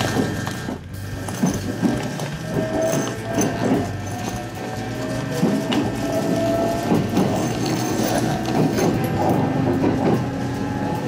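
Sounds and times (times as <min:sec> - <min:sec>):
motor hum and whine: 0:00.0 - 0:11.0
wheels clattering over rails: 0:00.0 - 0:11.0.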